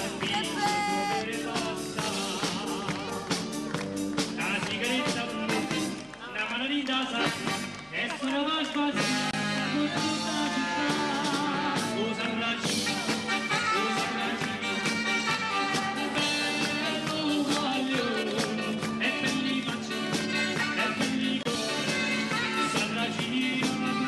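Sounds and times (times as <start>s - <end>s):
live band playing pop song: 0.0s - 24.0s
man singing: 0.0s - 24.0s.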